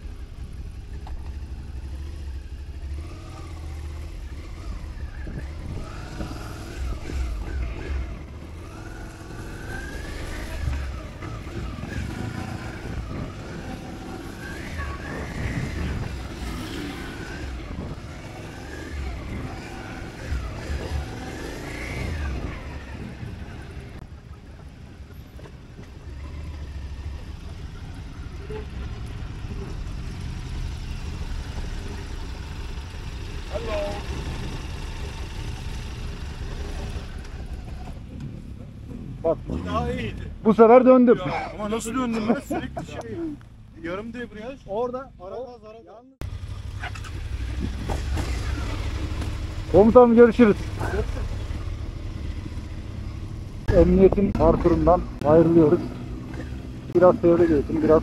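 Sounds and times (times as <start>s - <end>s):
motorcycle engine revving: 0.0s - 45.4s, 46.2s - 58.0s.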